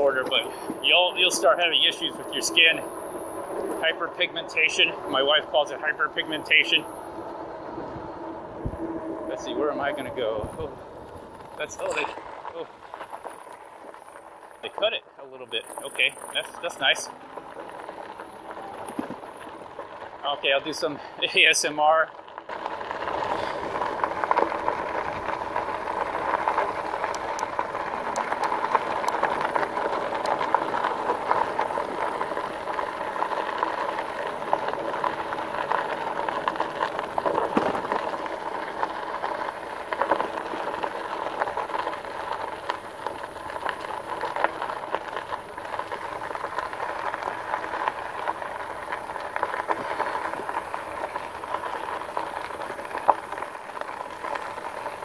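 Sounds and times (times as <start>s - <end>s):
bike ticks and rattles: 0.0s - 55.0s
bike tires crunching on gravel: 0.0s - 55.0s.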